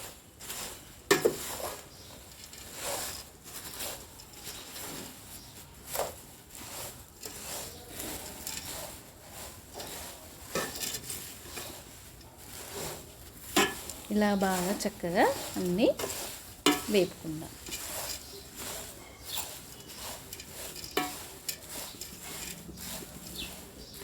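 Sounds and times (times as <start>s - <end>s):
rice frying in oil: 0.0s - 24.0s
spatula scraping a pan: 0.0s - 24.0s.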